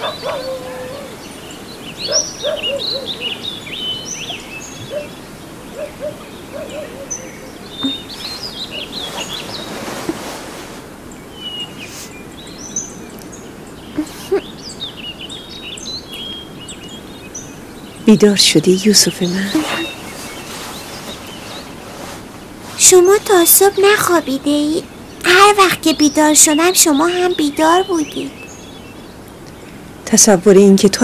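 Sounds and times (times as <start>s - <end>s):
soft rush of noise: 0.0s - 30.9s
small birds chirping: 0.0s - 31.0s.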